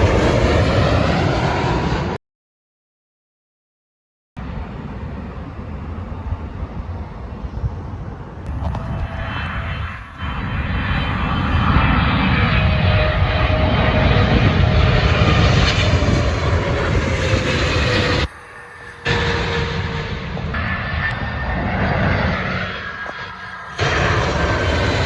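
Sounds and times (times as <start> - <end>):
jet airliner engines passing: 0.0 - 2.2, 4.4 - 25.0.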